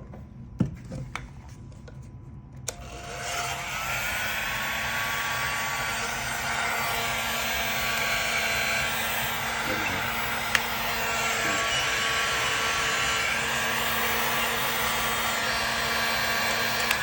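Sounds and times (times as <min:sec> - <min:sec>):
heat gun fan whine and air rush: 0:02.7 - 0:17.0.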